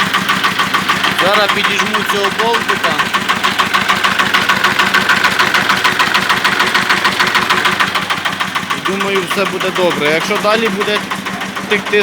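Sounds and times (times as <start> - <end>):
tractor diesel engine clattering: 0.0 - 12.0.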